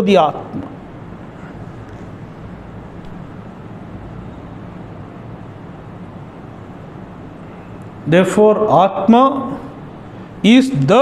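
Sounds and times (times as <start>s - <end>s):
room noise hum and hiss: 0.0s - 11.0s.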